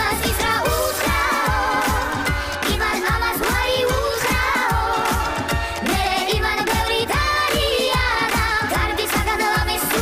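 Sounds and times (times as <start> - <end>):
pop song with dance beat: 0.0 - 10.0.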